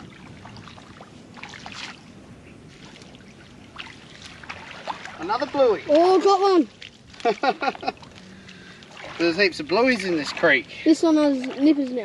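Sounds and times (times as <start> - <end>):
small water splashes: 0.0 - 12.0
water sloshing and trickling: 0.0 - 12.0.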